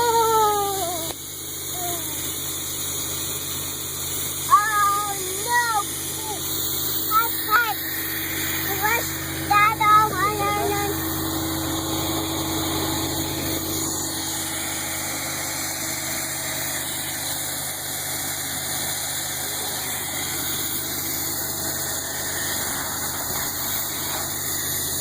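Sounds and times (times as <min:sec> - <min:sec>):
truck engine and vacuum pump drone: 0:00.0 - 0:25.0.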